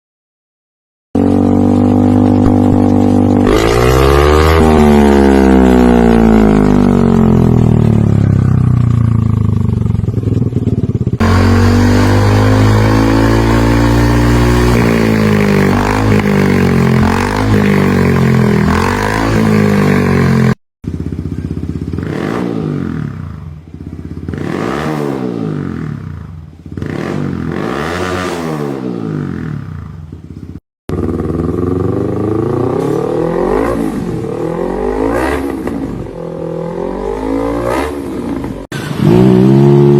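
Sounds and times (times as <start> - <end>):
motorcycle engine revving: 1.2 - 39.9.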